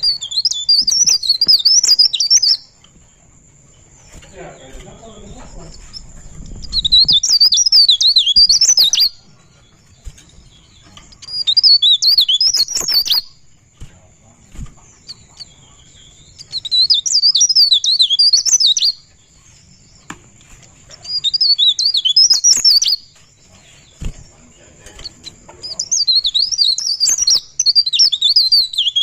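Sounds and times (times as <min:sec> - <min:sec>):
bird singing high warbling phrases: 0:00.0 - 0:29.0.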